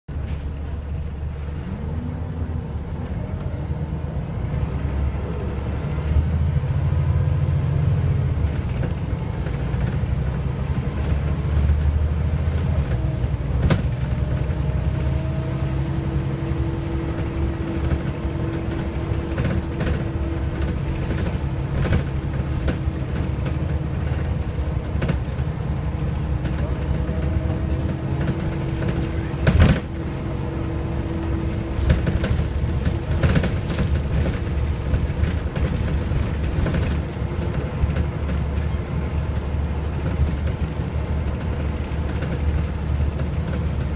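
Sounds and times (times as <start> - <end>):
bus diesel engine drone: 0.0 - 43.9.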